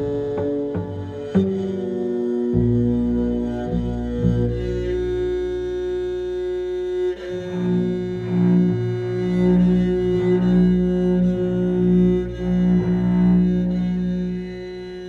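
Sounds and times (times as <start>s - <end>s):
bass koto: 0.0s - 15.0s
cello bowed low notes: 0.0s - 15.0s.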